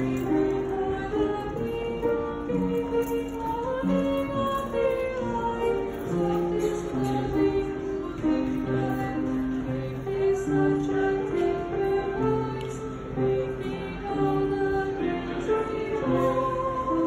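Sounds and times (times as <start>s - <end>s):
piano accompaniment: 0.0s - 17.0s
woman singing: 0.0s - 17.0s.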